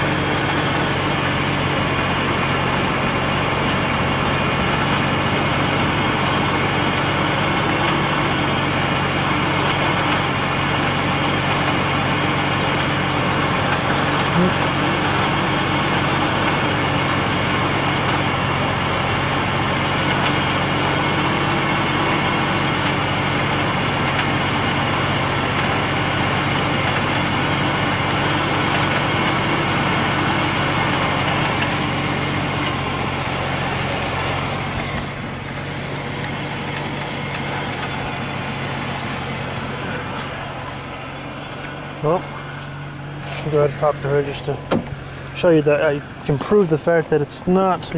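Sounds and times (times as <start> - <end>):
car engine idling: 0.0 - 47.9
exhaust rattle: 0.0 - 47.9.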